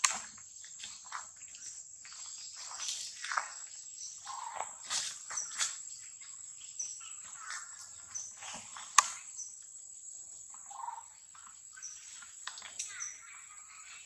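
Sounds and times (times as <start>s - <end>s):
rustling of dry leaves: 0.0s - 14.0s
high insect drone: 2.1s - 14.0s.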